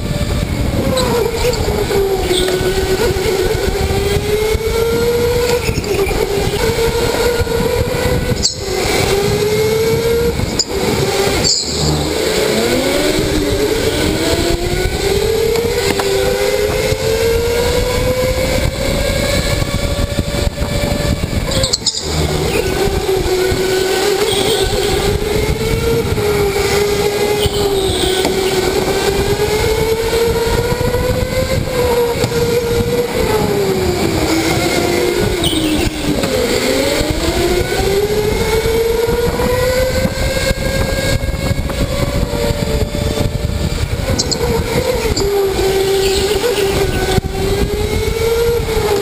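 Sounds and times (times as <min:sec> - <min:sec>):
electric motor whining: 0:00.0 - 0:49.0
tyres and wind rushing: 0:00.0 - 0:49.0.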